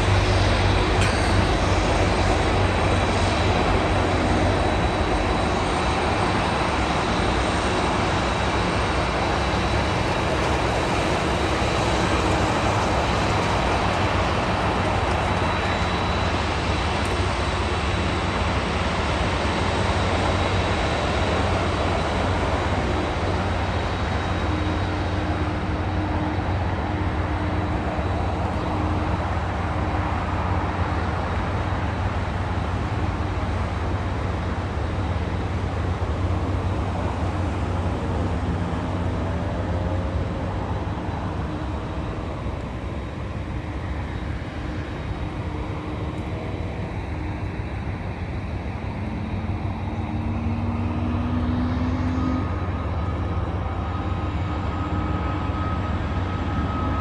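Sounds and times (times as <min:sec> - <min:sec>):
jet engines: 0:00.0 - 0:57.0.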